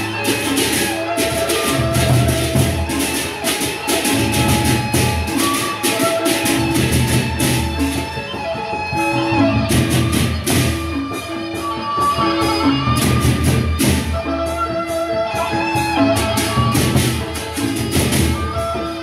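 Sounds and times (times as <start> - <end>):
held pitched melodic notes: 0.0 - 19.0.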